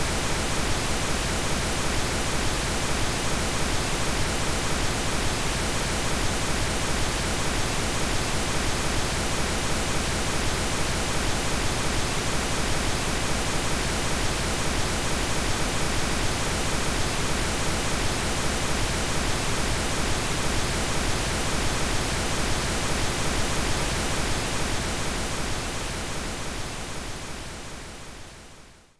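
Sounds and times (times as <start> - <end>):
pink noise hiss: 0.0 - 28.7.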